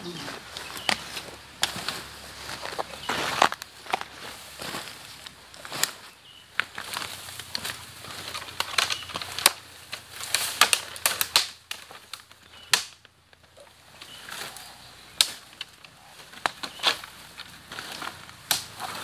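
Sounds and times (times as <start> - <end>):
leaves rustling: 0.0 - 19.0
twigs snapping underfoot: 0.3 - 19.0.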